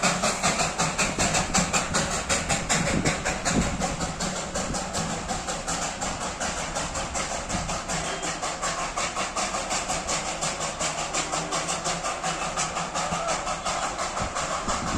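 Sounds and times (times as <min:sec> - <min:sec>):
steam locomotive chuffing: 0:00.0 - 0:14.9.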